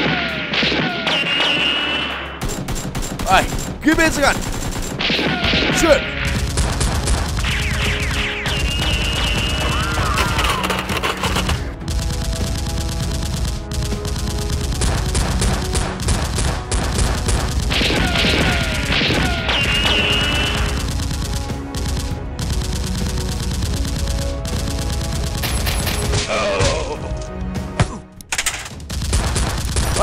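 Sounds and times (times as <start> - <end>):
machine-gun gunfire: 0.0 - 26.3, 28.4 - 30.0
background music: 0.0 - 30.0.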